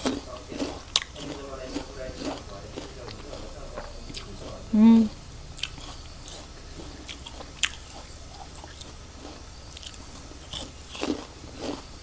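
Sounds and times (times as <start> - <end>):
person chewing crisp pear: 0.0 - 12.0.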